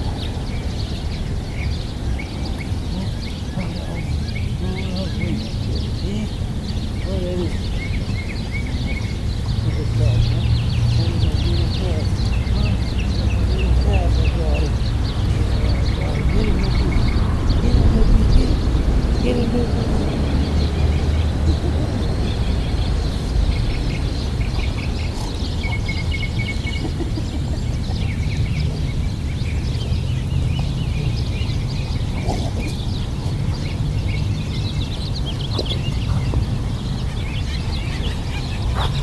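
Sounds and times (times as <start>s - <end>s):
birds chirping: 0.0s - 39.0s
low outdoor rumble: 0.0s - 39.0s.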